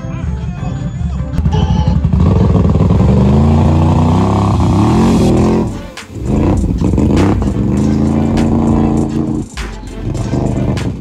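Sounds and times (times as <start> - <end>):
atv engine revving: 1.4 - 11.0.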